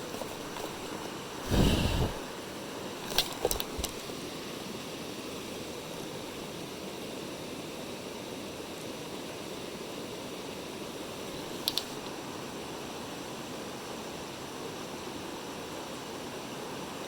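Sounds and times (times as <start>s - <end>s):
mountain stream flowing: 0.0s - 17.0s.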